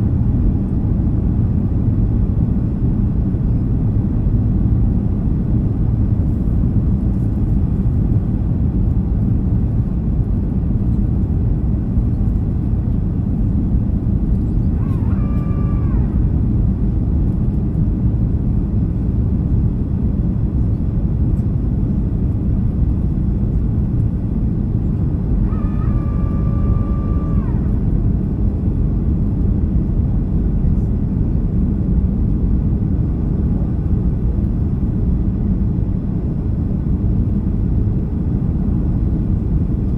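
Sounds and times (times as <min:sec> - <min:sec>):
aircraft engine rumble: 0:00.0 - 0:39.9
airflow over airframe: 0:00.0 - 0:39.9.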